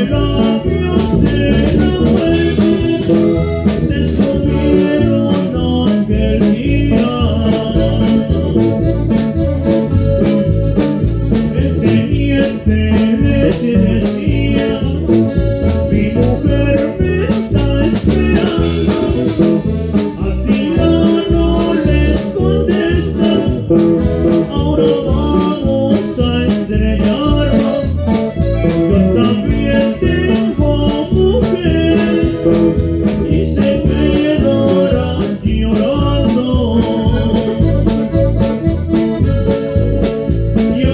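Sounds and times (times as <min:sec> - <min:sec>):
live band playing: 0:00.0 - 0:40.9.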